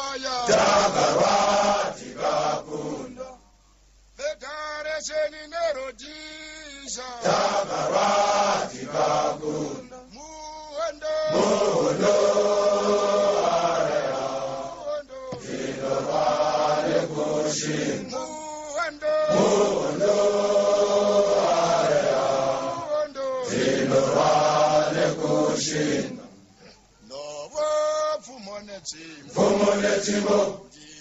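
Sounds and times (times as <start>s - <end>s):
men chanting in unison: 0.0s - 3.4s, 6.7s - 26.4s, 29.0s - 31.0s.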